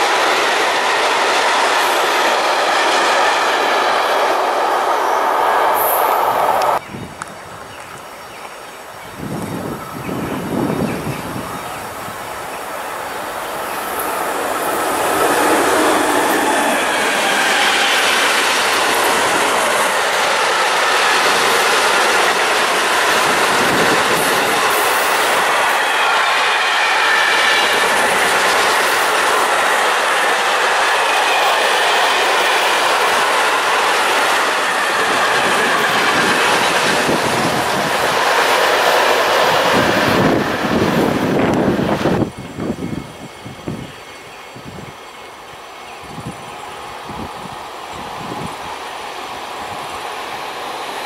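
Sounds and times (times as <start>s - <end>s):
train wheels rolling on rail: 0.0s - 51.0s.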